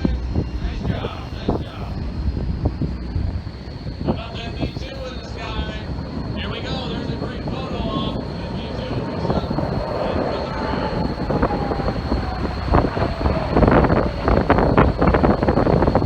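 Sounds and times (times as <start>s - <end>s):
aircraft engine rumble: 0.0s - 16.0s
wind buffeting microphone: 0.0s - 16.0s.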